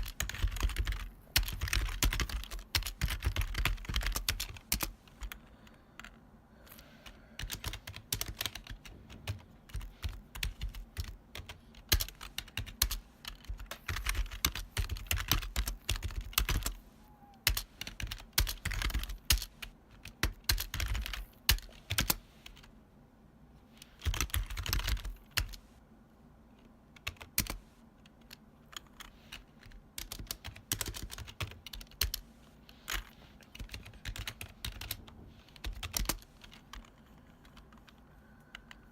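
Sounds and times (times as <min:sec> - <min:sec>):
clacky keyboard typing: 0:00.0 - 0:22.7, 0:23.8 - 0:25.6, 0:26.9 - 0:32.2, 0:32.8 - 0:38.9.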